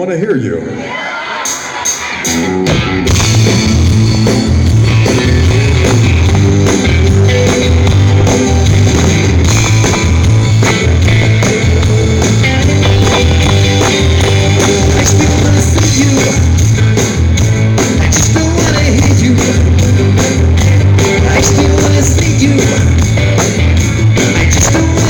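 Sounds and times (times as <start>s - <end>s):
drum kit beat: 1.4s - 25.0s
electric guitar: 2.0s - 25.0s
steady bass line: 2.3s - 25.0s.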